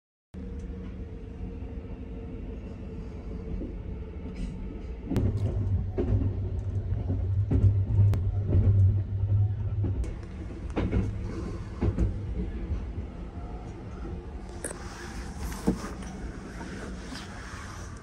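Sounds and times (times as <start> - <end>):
train cabin rumble: 0.7 - 18.0.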